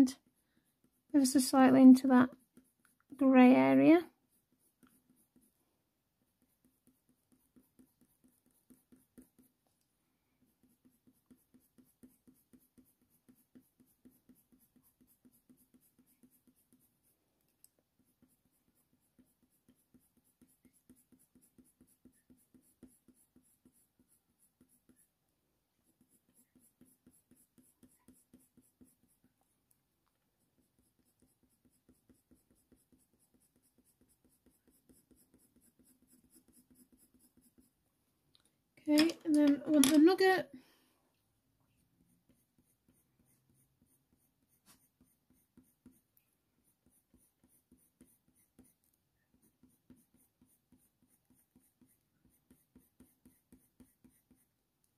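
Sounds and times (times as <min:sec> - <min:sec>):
pencil scratching on paper: 0:00.0 - 0:37.8, 0:42.1 - 0:54.9.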